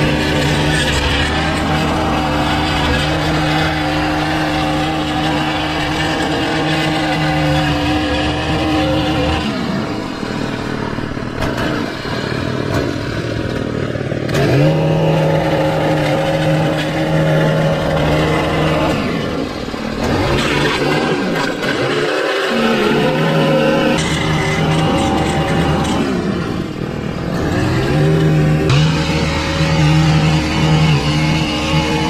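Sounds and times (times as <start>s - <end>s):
small petrol engine revving: 0.0s - 32.0s.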